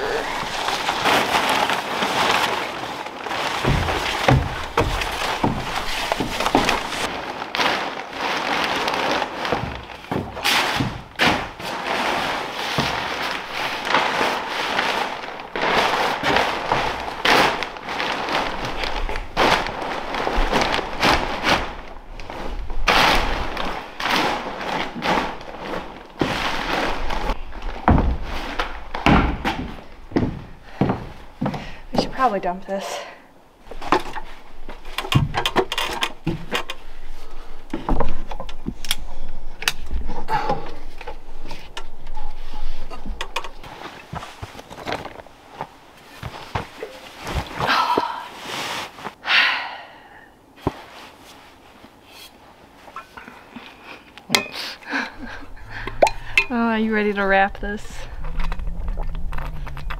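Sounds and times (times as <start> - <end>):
plastic sheeting crinkling: 0.0 - 31.5, 33.6 - 49.2, 50.6 - 54.1.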